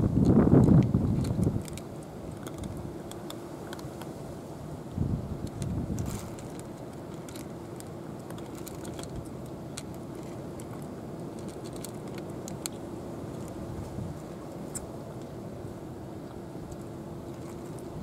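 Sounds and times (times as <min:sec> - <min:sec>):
low background hum: 0:00.0 - 0:18.0
cats crunching kibble: 0:00.1 - 0:18.0.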